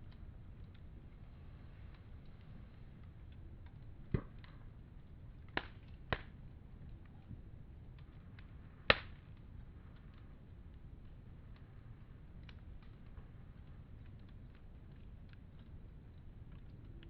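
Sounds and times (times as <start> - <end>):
campfire crackling: 0.0 - 17.0
sharp pops of fire: 0.0 - 17.0.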